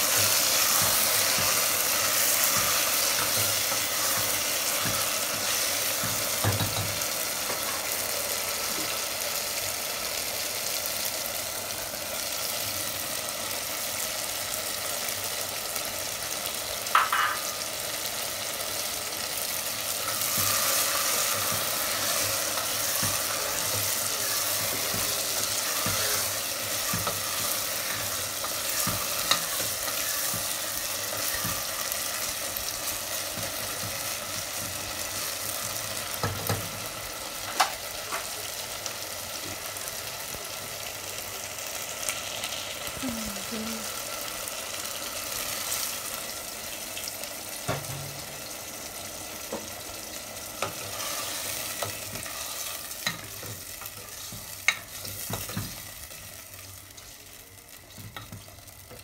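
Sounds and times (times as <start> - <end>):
chicken sizzling in pan: 0.0 - 59.0.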